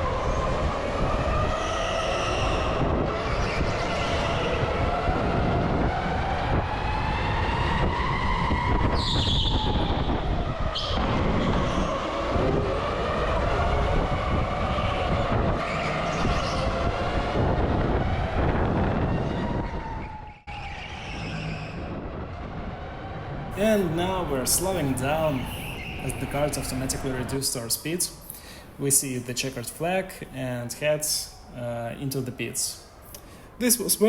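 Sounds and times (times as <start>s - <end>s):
road and wind rumble: 0.0s - 34.0s.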